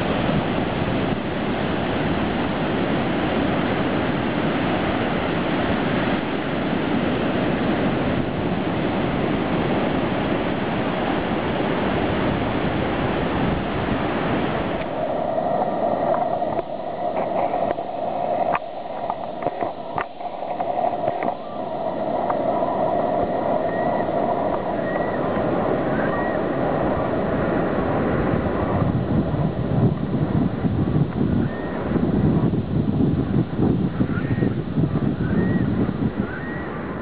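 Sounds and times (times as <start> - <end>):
ocean surf on beach: 0.0 - 37.0
steady hum: 0.0 - 37.0.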